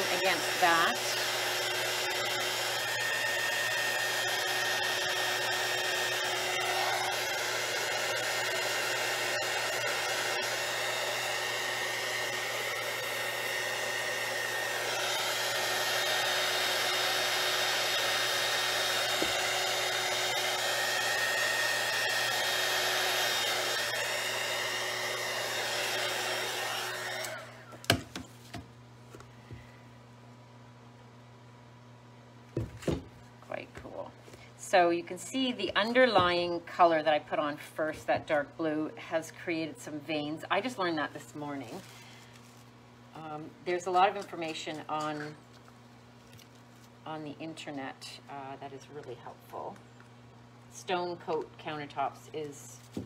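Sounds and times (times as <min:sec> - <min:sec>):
hot-air blower whining: 0:00.0 - 0:29.8, 0:32.6 - 0:45.7.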